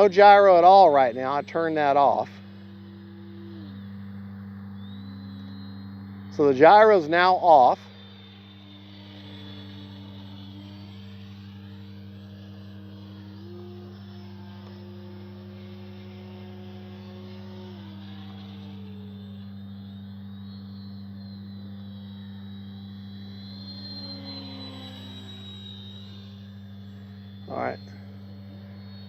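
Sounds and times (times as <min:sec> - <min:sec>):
model plane motor buzzing: 0:00.0 - 0:29.0
steady low hum: 0:00.0 - 0:29.0.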